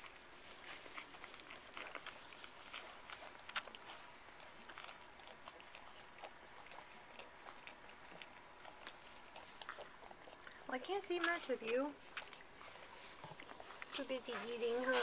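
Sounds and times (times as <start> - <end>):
puppies sucking clicks and smacks: 0.0 - 15.0.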